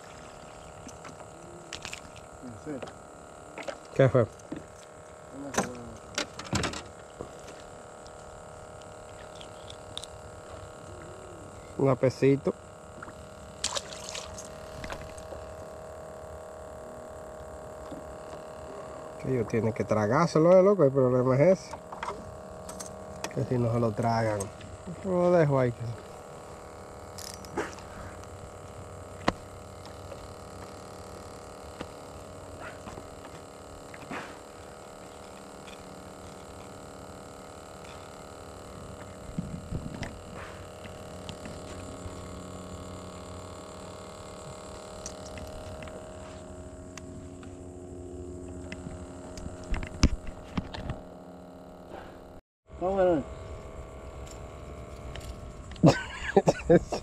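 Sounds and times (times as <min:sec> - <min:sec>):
steady hum of held tones: 0:00.0 - 0:57.0.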